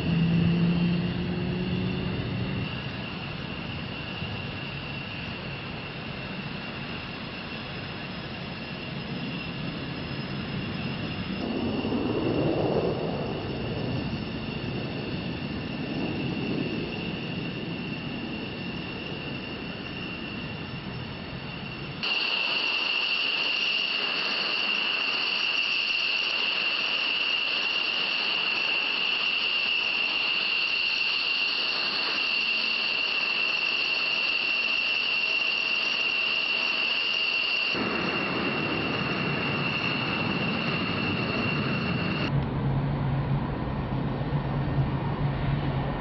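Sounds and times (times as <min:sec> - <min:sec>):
jet engine whine: 0:00.0 - 0:46.0.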